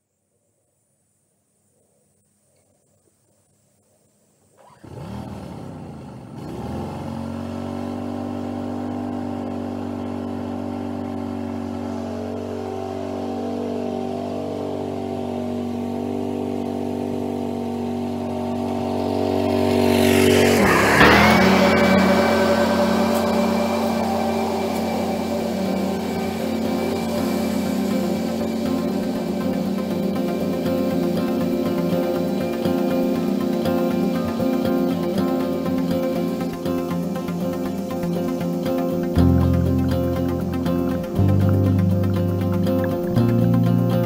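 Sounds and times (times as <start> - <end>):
lawn mower engine running: 4.6 - 44.0
high whine: 7.9 - 44.0.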